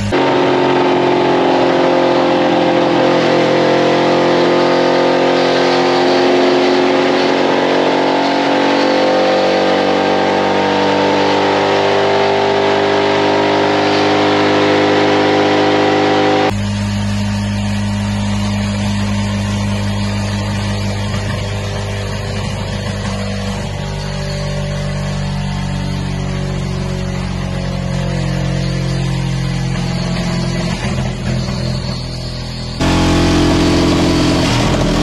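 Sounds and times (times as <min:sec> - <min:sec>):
truck engine high revs: 0:00.0 - 0:35.0.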